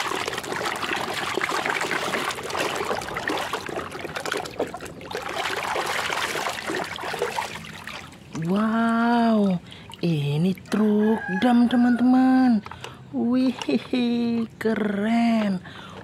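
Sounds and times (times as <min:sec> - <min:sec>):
water trickling: 0:00.0 - 0:15.9
water sloshing in a tub: 0:00.0 - 0:16.0.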